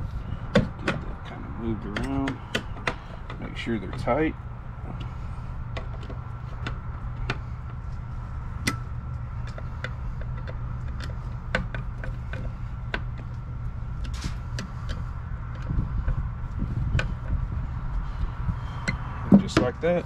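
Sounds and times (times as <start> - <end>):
steady low rumble: 0.0 - 20.0
metal hardware clicking and tapping: 0.5 - 4.2, 4.9 - 7.8, 8.5 - 18.0.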